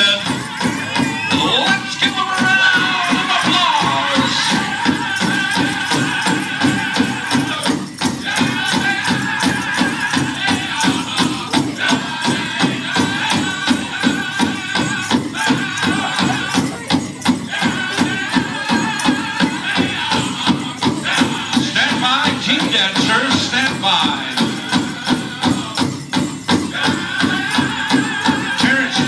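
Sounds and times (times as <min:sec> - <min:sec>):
singers in high voices: 0:00.0 - 0:25.9
rapid big drum beat: 0:00.0 - 0:29.0.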